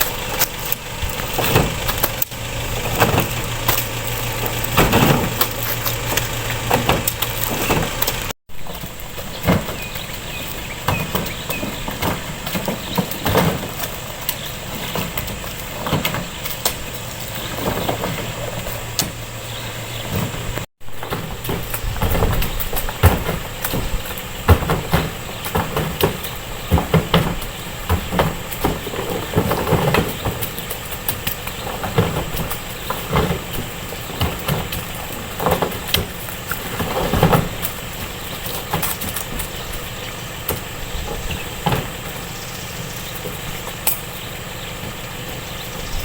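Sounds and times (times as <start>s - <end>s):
irregular knocks and clatter: 0.0s - 42.4s.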